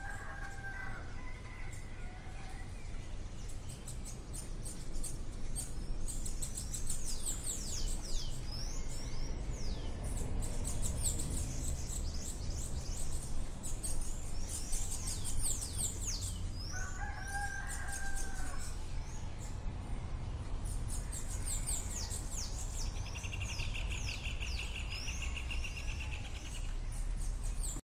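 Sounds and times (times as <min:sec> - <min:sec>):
birds chirping: 0:00.0 - 0:19.7, 0:20.4 - 0:27.8.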